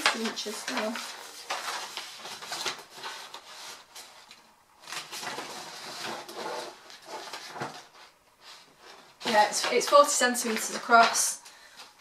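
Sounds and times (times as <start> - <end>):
paper sheets rustling: 0.0 - 12.0.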